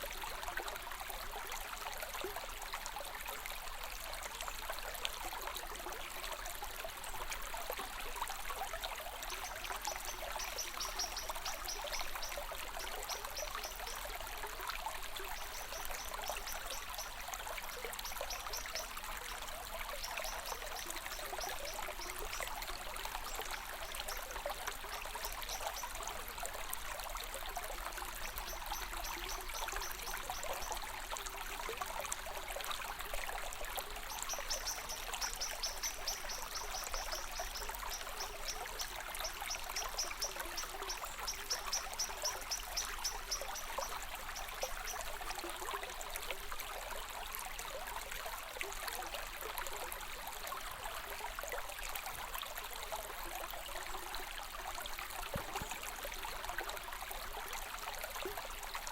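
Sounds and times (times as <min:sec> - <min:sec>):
water trickling and flowing: 0:00.0 - 0:58.9.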